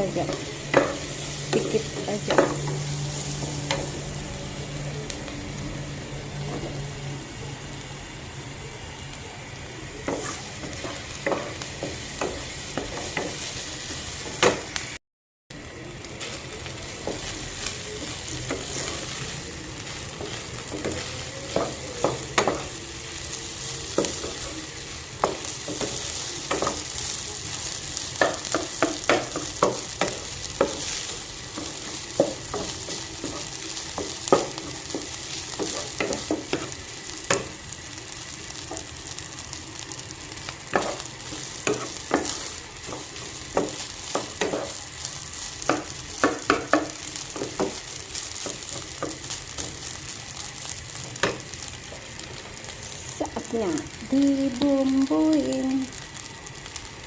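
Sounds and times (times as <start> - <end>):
rice sizzling in a pan: 0.0 - 57.0.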